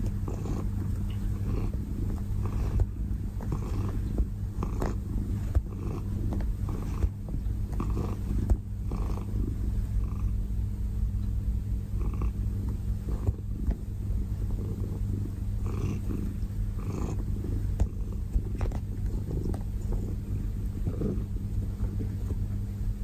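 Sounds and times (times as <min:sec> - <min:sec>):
cat purring: 0:00.0 - 0:10.8, 0:11.6 - 0:23.0.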